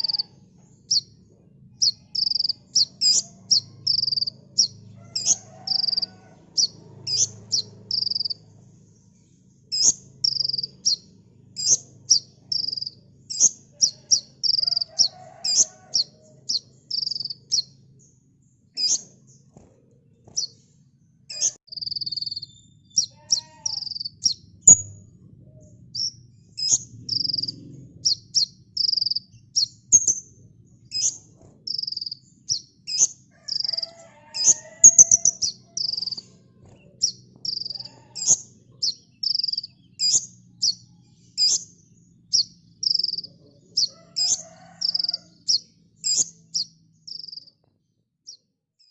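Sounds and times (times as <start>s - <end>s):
bird chirping: 0.0s - 47.7s
faint low hum: 0.0s - 47.7s.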